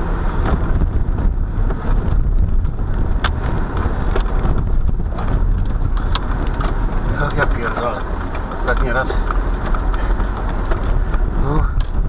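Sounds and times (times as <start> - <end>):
car rumble on rough ground: 0.0 - 12.0.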